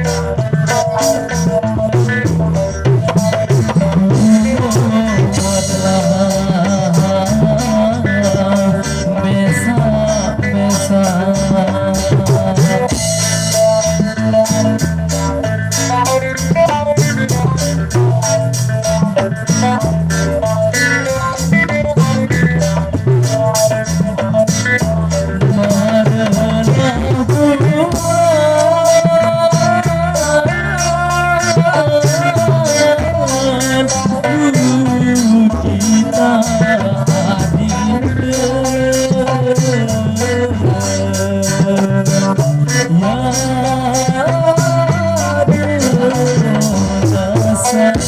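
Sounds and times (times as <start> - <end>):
drum kit beating: 0.0 - 48.0
electric bass: 0.0 - 48.0
person singing wavering melody: 0.0 - 48.0.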